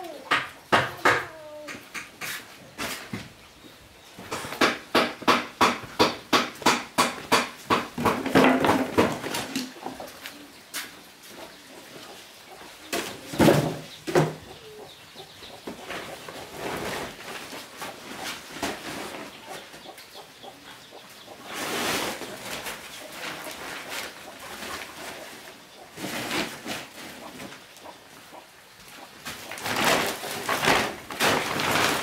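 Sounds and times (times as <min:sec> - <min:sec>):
chickens clucking: 0:00.0 - 0:04.7, 0:07.7 - 0:32.0.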